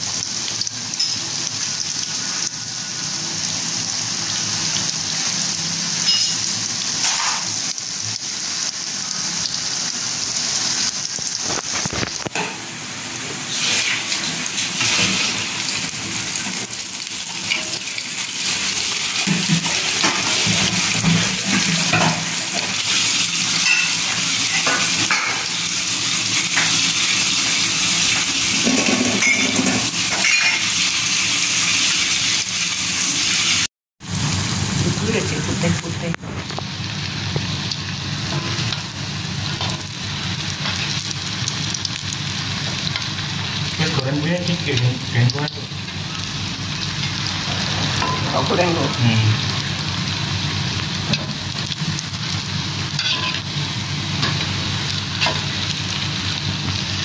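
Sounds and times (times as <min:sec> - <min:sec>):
food deep-frying in hot oil: 0:00.0 - 0:57.0.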